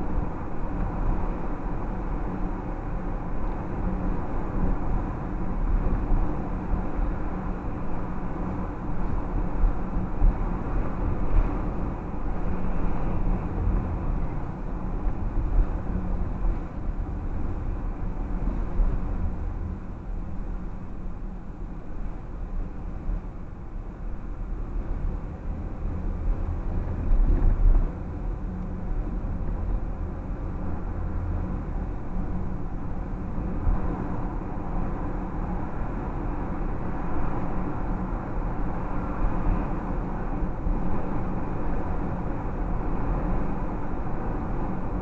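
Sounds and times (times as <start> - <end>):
car cabin road rumble: 0.0 - 45.0.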